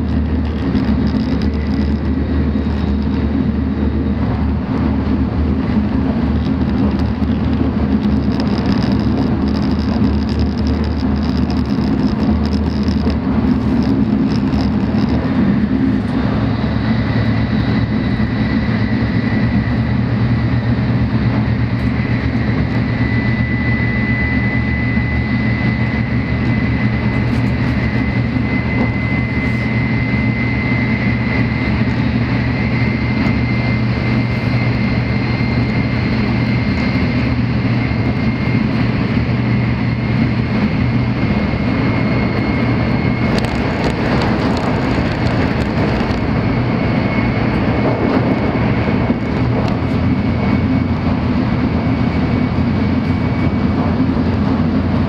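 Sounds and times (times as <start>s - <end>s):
train cabin low rumble: 0.0s - 23.6s, 24.3s - 55.0s
faint steady whine: 0.0s - 55.0s.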